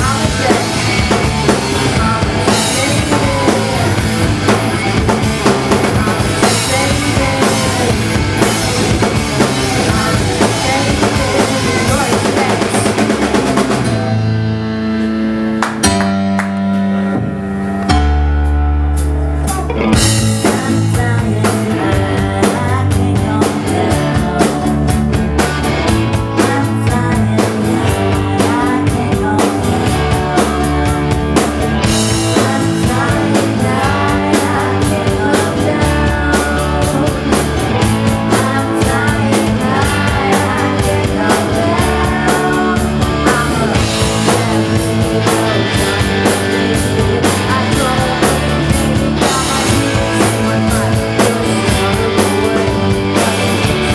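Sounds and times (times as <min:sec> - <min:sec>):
bass guitar: 0:00.0 - 0:53.9
drum kit: 0:00.0 - 0:53.9
electric guitar: 0:00.0 - 0:53.9.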